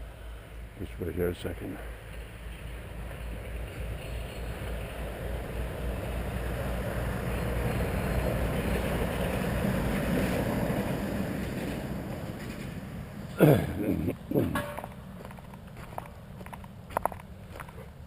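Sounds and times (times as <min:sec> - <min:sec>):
truck engine and tyres rumbling: 0:00.0 - 0:18.0.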